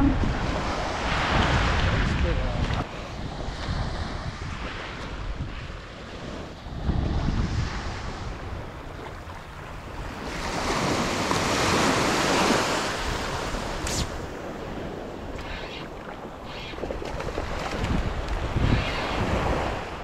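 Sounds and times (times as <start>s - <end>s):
ocean waves washing in: 0.0s - 16.5s
wind gusting on microphone: 0.0s - 20.0s.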